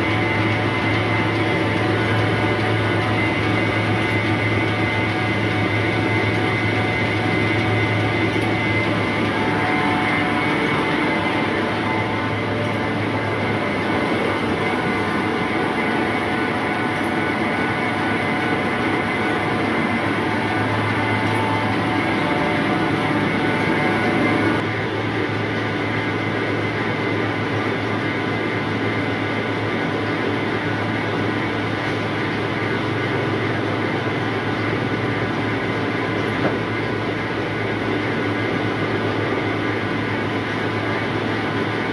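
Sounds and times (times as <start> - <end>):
sorting machine humming and rumbling: 0.0 - 41.9.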